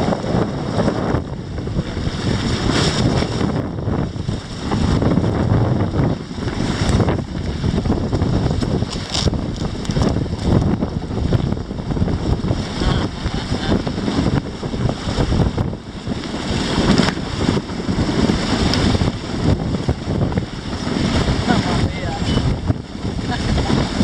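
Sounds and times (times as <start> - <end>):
water rushing past hulls: 0.0 - 24.0
wind buffeting microphone: 0.0 - 24.0.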